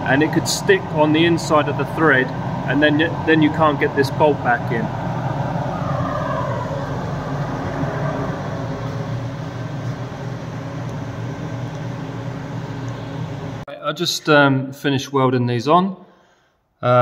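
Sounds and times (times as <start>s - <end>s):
falling whine: 0.0s - 13.6s
low machine hum: 0.0s - 17.0s.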